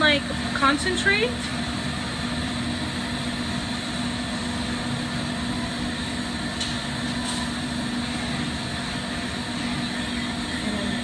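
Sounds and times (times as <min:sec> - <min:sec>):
steady hum: 0:00.0 - 0:11.0
ventilation running: 0:00.0 - 0:11.0
torch flame rushing: 0:00.3 - 0:11.0.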